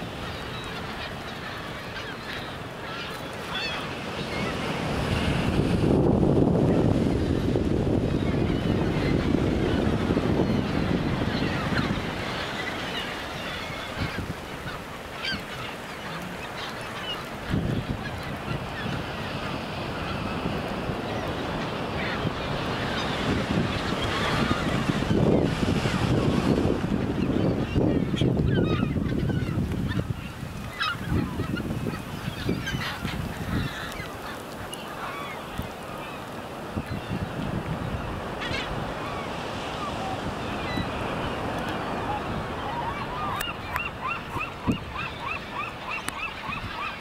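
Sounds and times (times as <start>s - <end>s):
flock of gulls calling: 0.0s - 47.0s
surf: 0.0s - 47.0s
wind: 0.0s - 47.0s.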